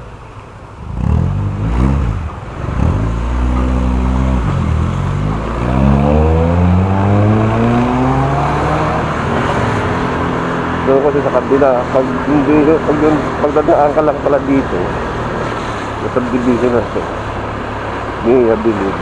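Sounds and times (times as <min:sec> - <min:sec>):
scooter engine accelerating: 0:00.8 - 0:19.0.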